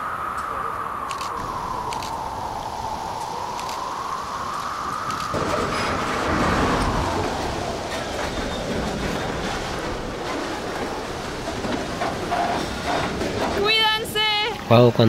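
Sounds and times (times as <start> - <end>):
high whine sliding down: 0.0 - 14.6
freight train rumbling and rattling: 0.0 - 15.0.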